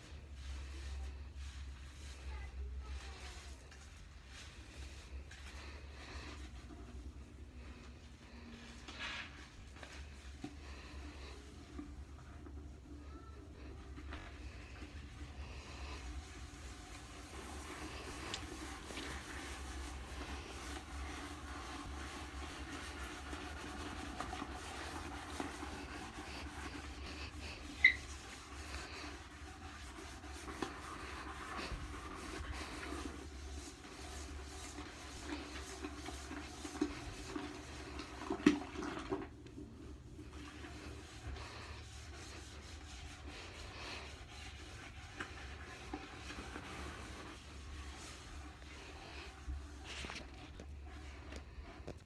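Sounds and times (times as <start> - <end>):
sponge scrubbing toilet bowl: 0.0 - 52.0.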